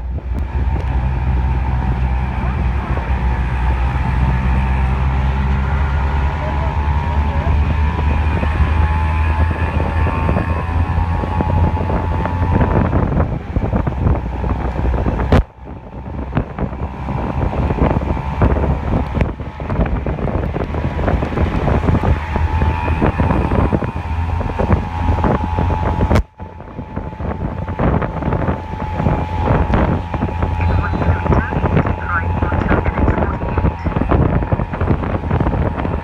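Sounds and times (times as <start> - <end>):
steady low rumble: 0.0 - 36.0
wind buffeting microphone: 0.0 - 36.0.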